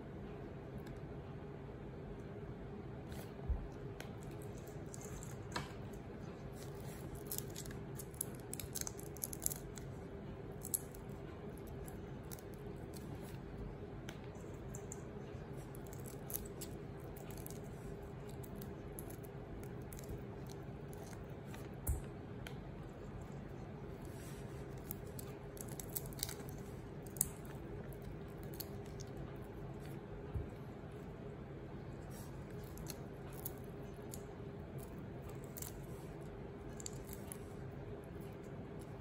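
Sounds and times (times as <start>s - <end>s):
steady low hum: 0.0s - 39.0s
shells crackling as peeled: 3.8s - 30.3s, 32.0s - 39.0s.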